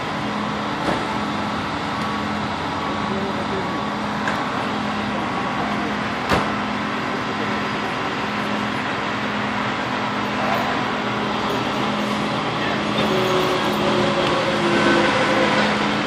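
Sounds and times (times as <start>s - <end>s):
road vehicle hum: 0.0s - 16.0s.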